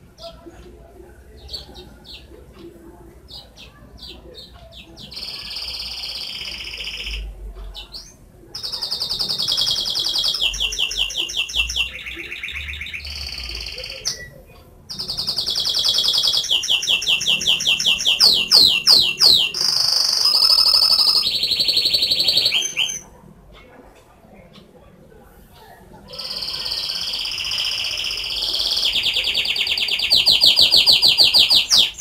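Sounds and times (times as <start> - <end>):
canary singing trills: 0.0 - 23.7, 25.5 - 32.0.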